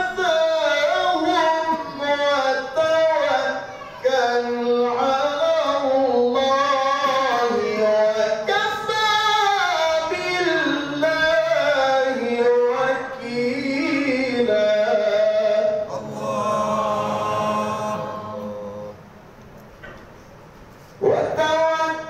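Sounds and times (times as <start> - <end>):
man reciting melodically over loudspeaker: 0.0 - 19.0, 21.0 - 22.0.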